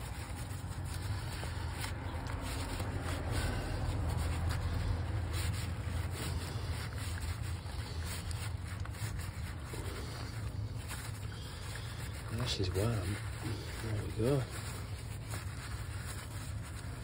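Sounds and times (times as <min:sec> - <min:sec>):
hands and tools scraping: 0:00.0 - 0:17.0.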